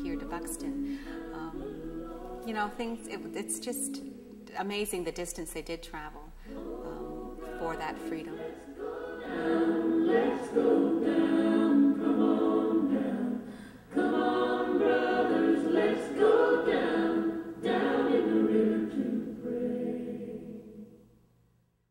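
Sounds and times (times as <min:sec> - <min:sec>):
choir singing in harmony: 0:00.0 - 0:21.2.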